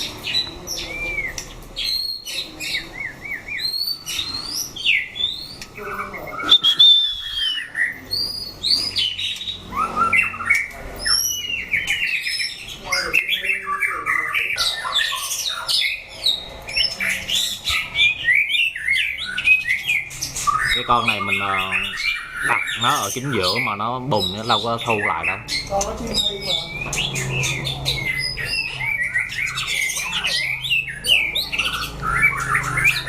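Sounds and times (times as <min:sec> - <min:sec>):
birds singing whistled phrases: 0:00.0 - 0:33.0.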